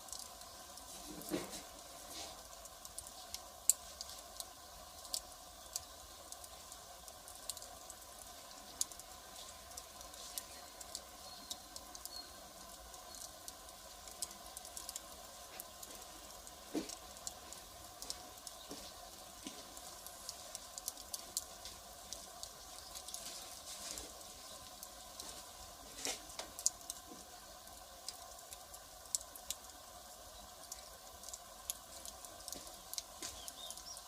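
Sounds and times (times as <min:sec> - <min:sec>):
faint steady hiss: 0:00.0 - 0:34.0
fire crackling and snapping: 0:00.0 - 0:34.0.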